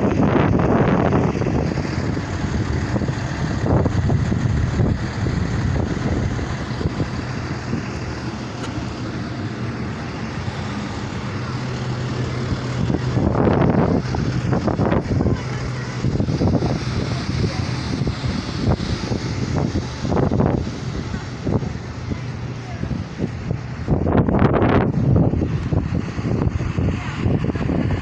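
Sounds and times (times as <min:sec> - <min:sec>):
bus engine idling: 0:00.0 - 0:28.0
wind buffeting microphone: 0:00.0 - 0:28.0.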